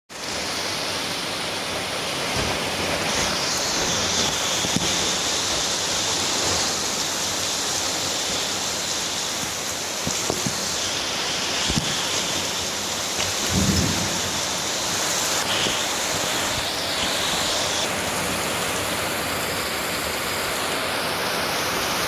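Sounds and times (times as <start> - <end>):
heavy rain pouring: 0.1 - 22.0.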